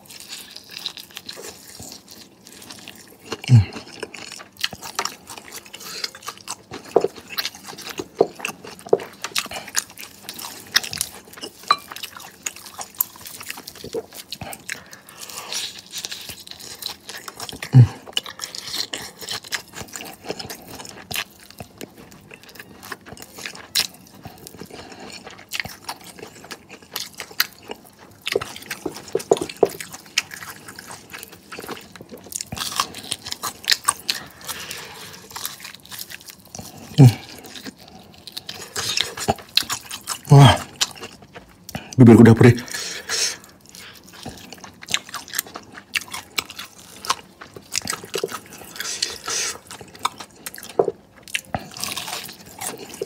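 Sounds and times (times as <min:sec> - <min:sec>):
chewing crunchy fried chicken: 0:00.0 - 0:53.0.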